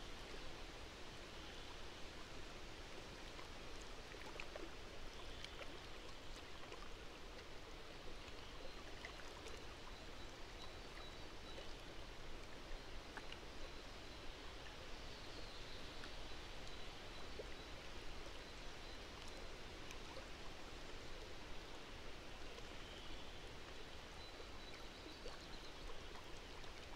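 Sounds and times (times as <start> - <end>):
soft outdoor hiss: 0.0 - 26.9.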